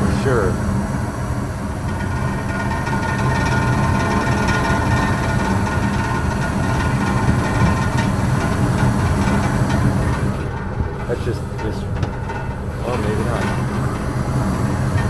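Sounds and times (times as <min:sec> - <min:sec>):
furnace burner and blower hum: 0:00.0 - 0:15.0
furnace rattling: 0:00.0 - 0:15.0.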